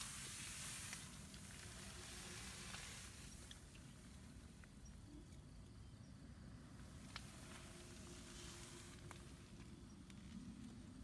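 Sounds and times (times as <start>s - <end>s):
soft outdoor hiss: 0.0s - 11.0s.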